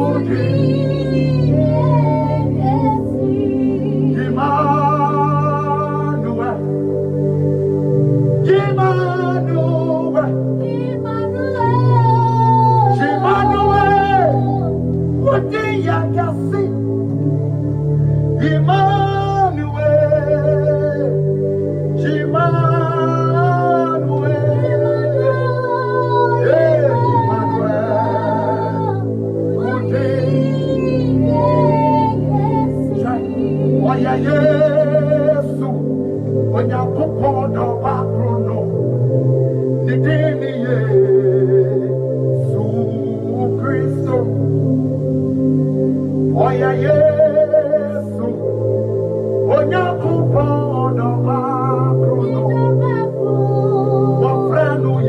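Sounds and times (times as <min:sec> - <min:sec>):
person singing long notes: 0:00.0 - 0:06.8, 0:08.4 - 0:17.2, 0:18.4 - 0:39.0, 0:39.8 - 0:44.8, 0:46.3 - 0:55.0
low backing chords: 0:00.0 - 0:55.0
sustained keyboard pad: 0:00.0 - 0:55.0.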